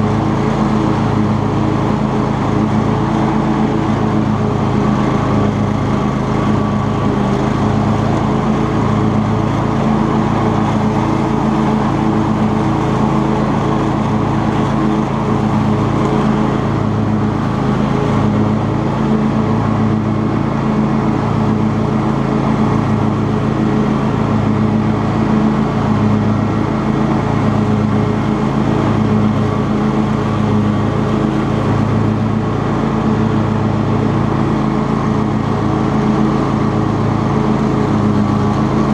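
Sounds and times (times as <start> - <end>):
lawn tractor engine mowing: 0.0 - 38.9.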